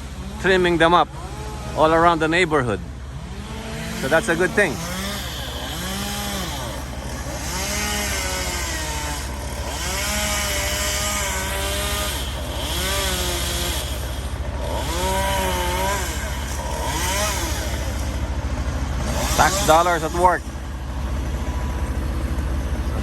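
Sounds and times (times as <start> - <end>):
chainsaw cutting tree limbs: 0.0 - 23.0.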